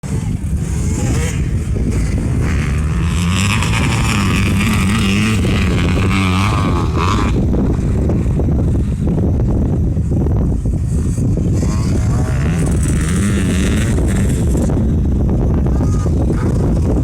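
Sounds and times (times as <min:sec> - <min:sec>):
motocross bike engine running: 0:00.0 - 0:17.0.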